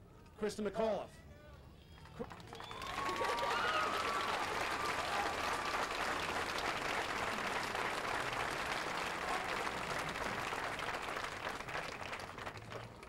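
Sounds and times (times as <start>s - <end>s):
crowd applauding: 2.0s - 13.0s.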